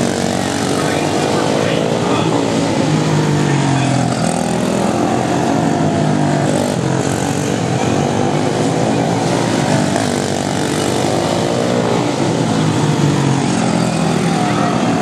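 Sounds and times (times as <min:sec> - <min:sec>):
small race car engines buzzing: 0:00.0 - 0:15.0.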